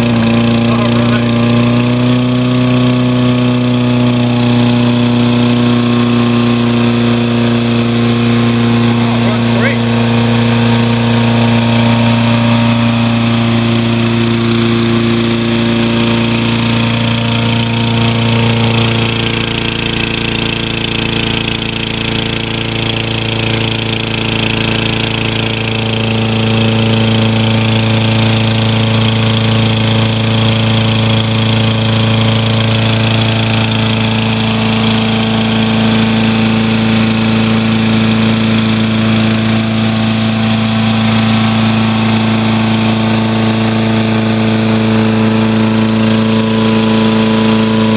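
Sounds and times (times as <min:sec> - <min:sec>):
lawn mower engine running: 0:00.0 - 0:47.9.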